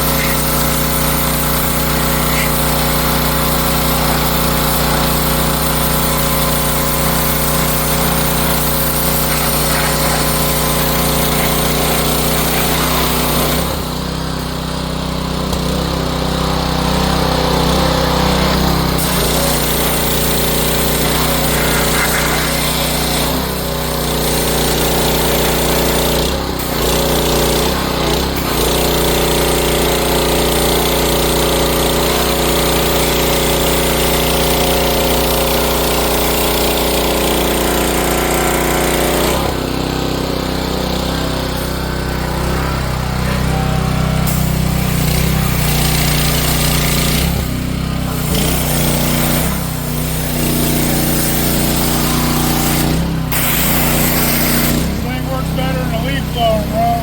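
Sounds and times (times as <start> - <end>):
pressure washer engine running: 0.0 - 57.0.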